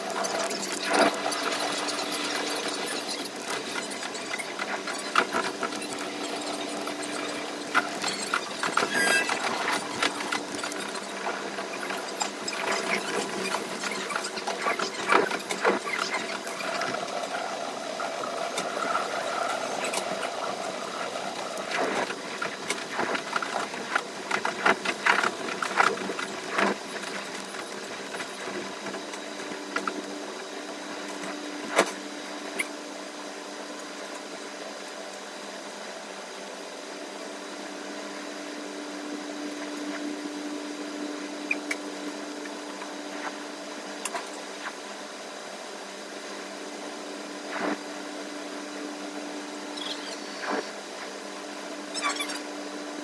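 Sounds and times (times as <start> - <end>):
sped-up train running noise: 0.0 - 52.5.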